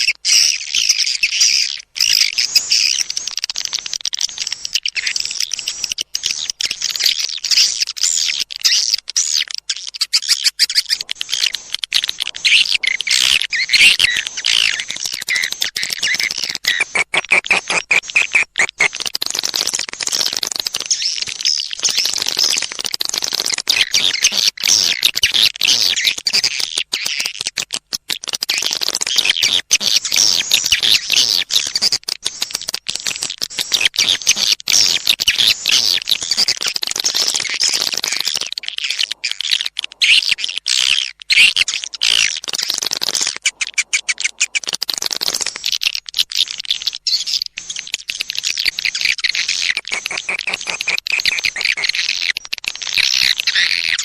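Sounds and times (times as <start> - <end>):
swiftlet chirps and twitters: 0.0 - 27.3, 28.2 - 54.0.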